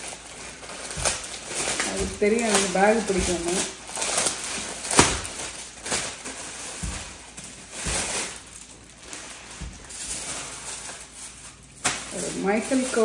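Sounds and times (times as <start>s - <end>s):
plastic wrapping rustling: 0.0s - 13.0s.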